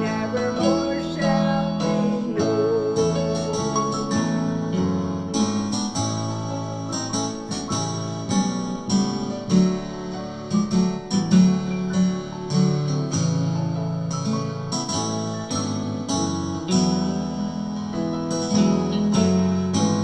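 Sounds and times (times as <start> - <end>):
keyboard playing: 0.0 - 20.0
plucked guitar: 0.0 - 20.0.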